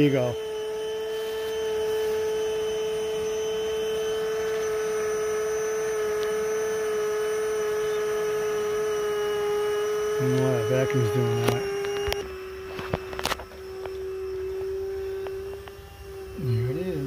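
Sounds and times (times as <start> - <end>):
vacuum whining: 0.0 - 17.0.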